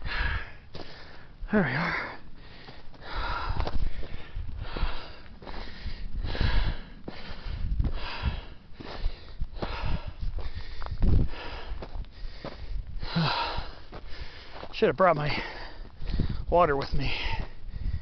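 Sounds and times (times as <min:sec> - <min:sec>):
person breathing heavily: 0:00.0 - 0:18.0.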